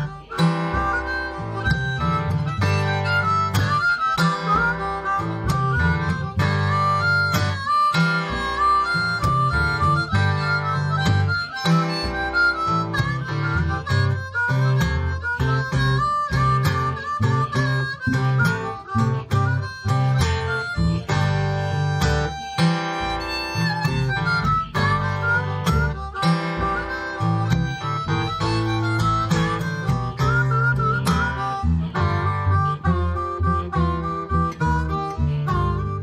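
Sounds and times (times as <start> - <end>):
blues harmonica: 0.0 - 36.0
strummed acoustic guitar: 0.0 - 36.0.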